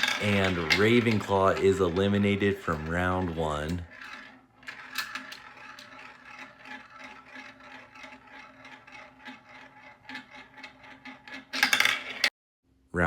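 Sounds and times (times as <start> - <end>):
marbles rolling on a track: 0.0 - 12.3.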